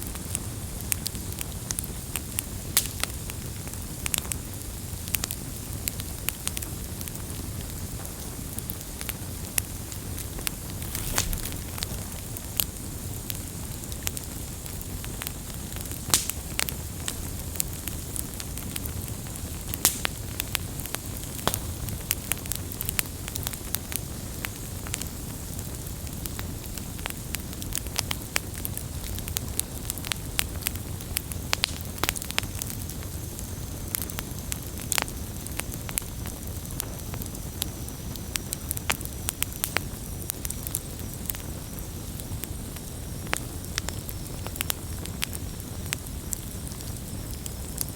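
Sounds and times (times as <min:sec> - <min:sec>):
campfire crackling and popping: 0:00.0 - 0:47.9
low rumble of flame: 0:00.0 - 0:47.9.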